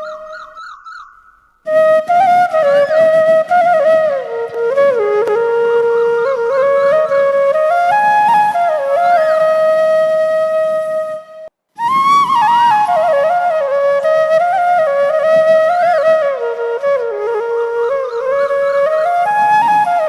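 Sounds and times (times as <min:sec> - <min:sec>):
solo flute melody: 0:00.0 - 0:01.0, 0:01.6 - 0:20.0.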